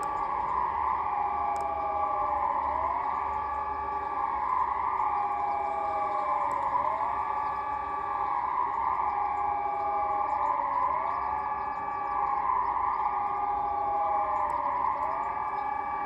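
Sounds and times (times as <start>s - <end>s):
electronic sirens sounding: 0.0s - 16.0s
siren with sweeping pitch: 0.0s - 16.0s.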